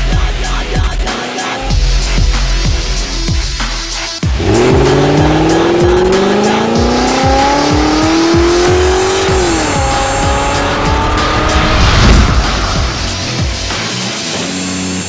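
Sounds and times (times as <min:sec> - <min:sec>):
electronic music beat: 0:00.0 - 0:14.2
car engine revving: 0:01.8 - 0:15.0.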